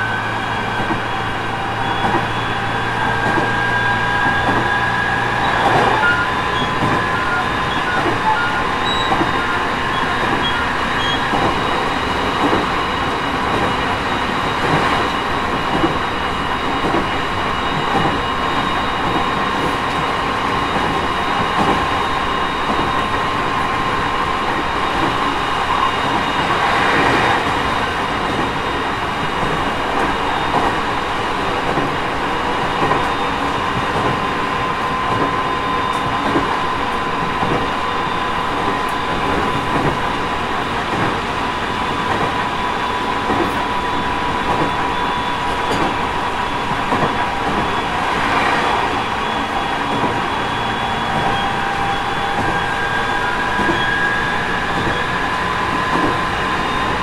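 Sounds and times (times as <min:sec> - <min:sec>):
train wheels rumbling on rail: 0:00.0 - 0:57.0
rail joint clicks: 0:00.1 - 0:57.0.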